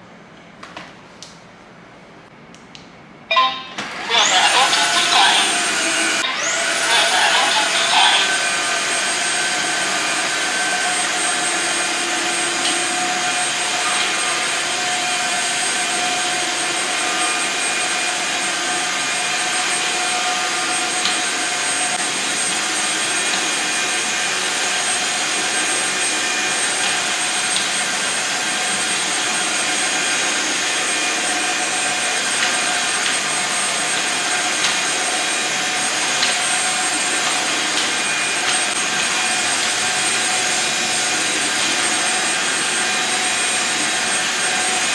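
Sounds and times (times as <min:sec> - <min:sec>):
floor cleaner motor whining: 0:03.3 - 0:44.9.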